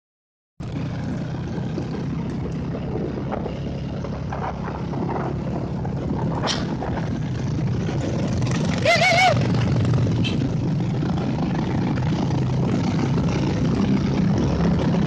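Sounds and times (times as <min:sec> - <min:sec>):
motorcycle engine running: 0:00.6 - 0:15.0
wind and road noise: 0:00.6 - 0:15.0.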